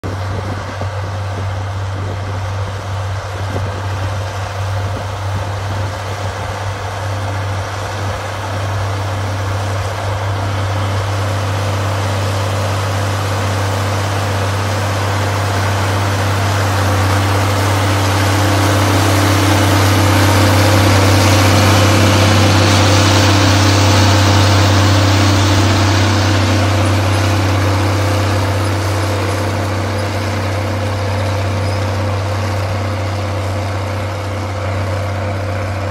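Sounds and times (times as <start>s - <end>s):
tractor diesel engine under load: 0.0s - 35.9s.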